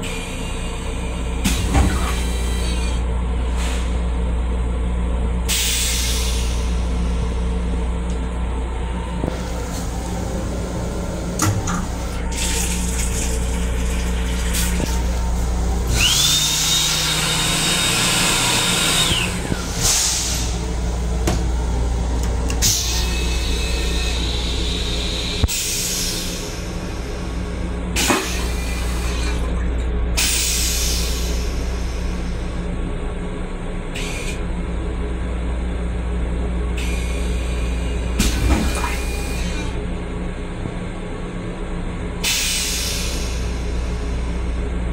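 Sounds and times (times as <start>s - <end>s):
train rumble: 0.0s - 44.9s.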